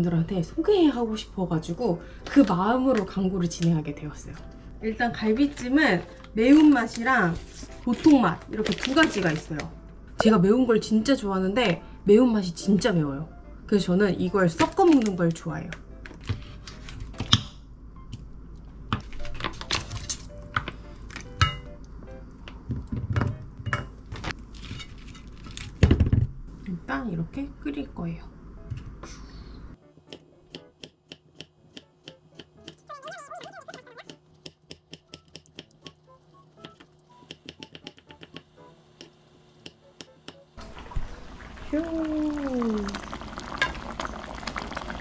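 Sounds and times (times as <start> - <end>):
soft background music: 0.0 - 24.4, 26.6 - 42.9.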